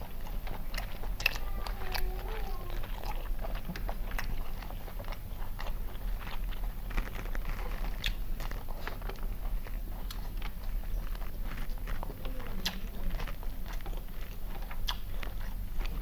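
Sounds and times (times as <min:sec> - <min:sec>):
crisp clicks and crunches: 0:00.0 - 0:16.0
wet chewing and biting: 0:00.0 - 0:16.0.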